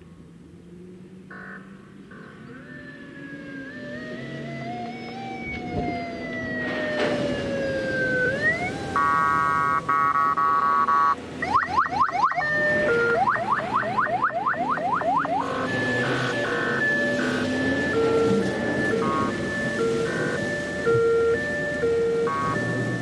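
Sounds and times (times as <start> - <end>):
electronic vehicle siren: 1.3 - 23.0.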